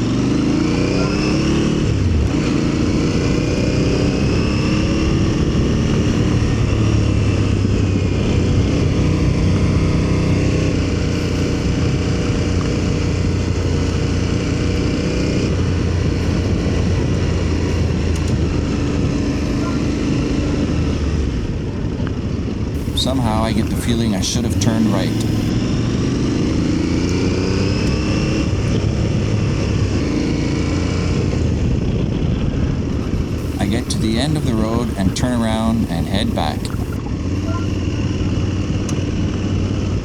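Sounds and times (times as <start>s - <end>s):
wind and road noise: 0.0s - 25.6s, 26.2s - 40.0s.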